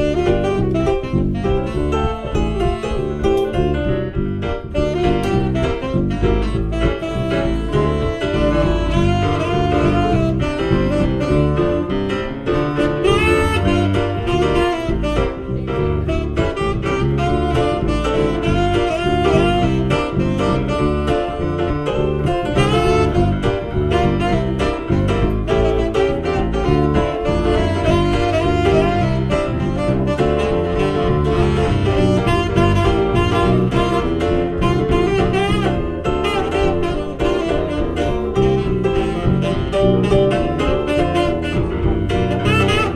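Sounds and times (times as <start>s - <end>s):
jazzy live band music: 0.0s - 42.9s
saxophone melody: 0.0s - 42.9s.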